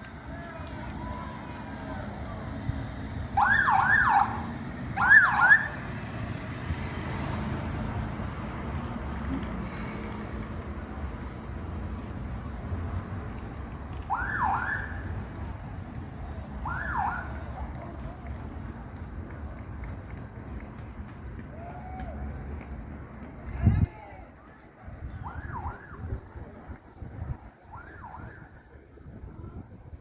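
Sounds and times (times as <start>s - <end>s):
street noise: 0.0s - 30.0s.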